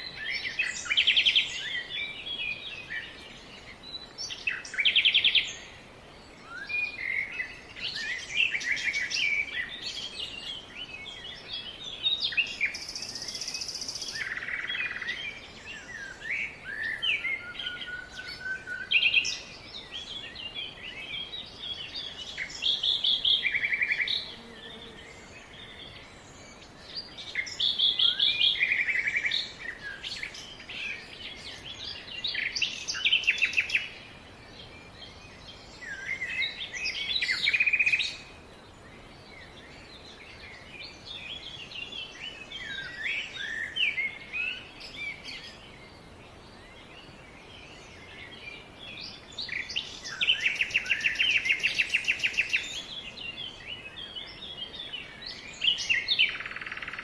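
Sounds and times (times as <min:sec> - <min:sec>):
faint steady hiss: 0:00.0 - 0:57.0
wild birds chirping and trilling: 0:00.0 - 0:57.0.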